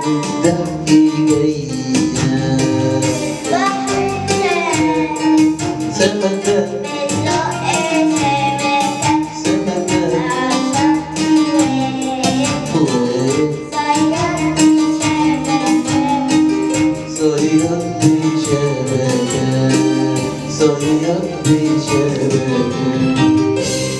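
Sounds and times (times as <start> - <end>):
children's song singing: 0.0 - 23.8
tapping percussion beat: 0.0 - 23.9.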